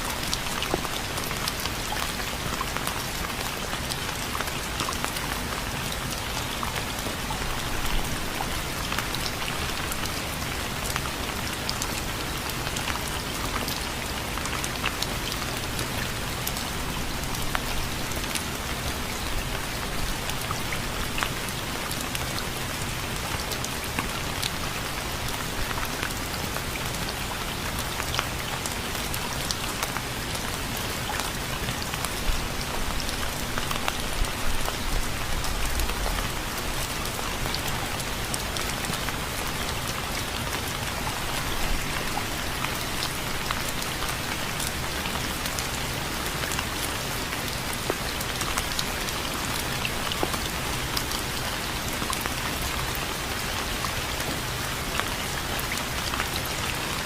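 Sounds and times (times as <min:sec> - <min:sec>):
rain pattering on hard surface: 0:00.0 - 0:57.0.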